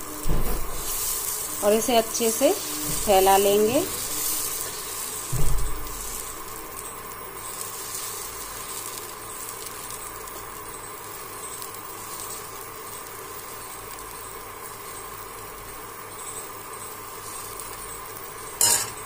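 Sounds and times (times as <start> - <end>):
batter sizzling in a pan: 0.0 - 19.0.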